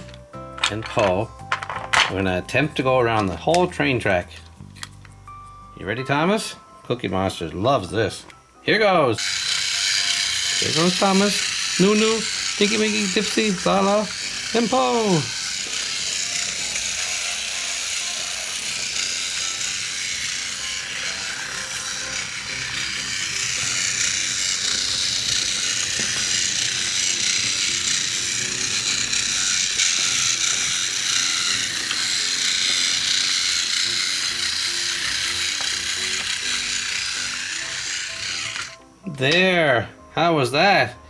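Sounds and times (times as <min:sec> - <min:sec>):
toy train motor whirring and rattling: 0:00.0 - 0:05.2, 0:07.6 - 0:39.4.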